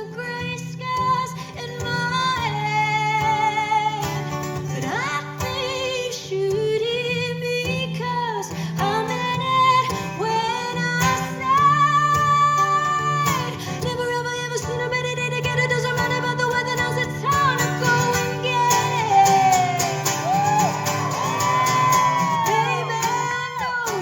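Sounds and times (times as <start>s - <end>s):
woman singing: 0.0s - 20.7s, 21.3s - 24.0s
guitar accompaniment: 0.0s - 24.0s.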